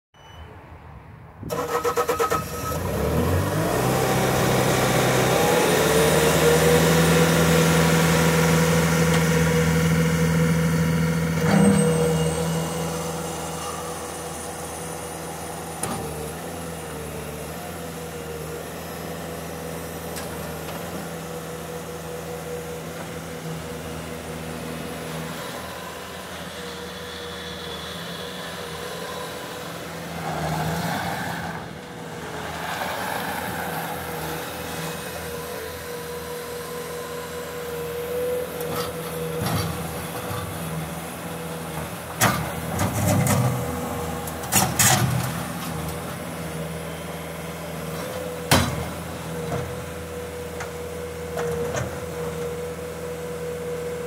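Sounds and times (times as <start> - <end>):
diesel engine revving: 1.5 - 50.4.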